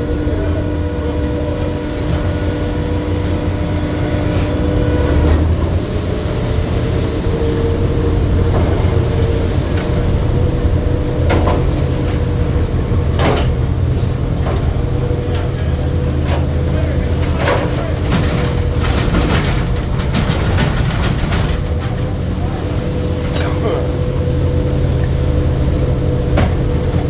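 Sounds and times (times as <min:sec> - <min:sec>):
boat engine and deck machinery drone: 0:00.0 - 0:27.0.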